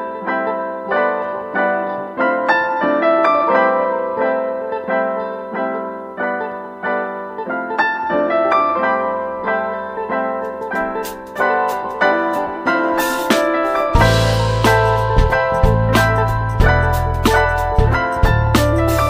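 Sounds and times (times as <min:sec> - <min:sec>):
piano-like keyboard melody: 0:00.0 - 0:19.0.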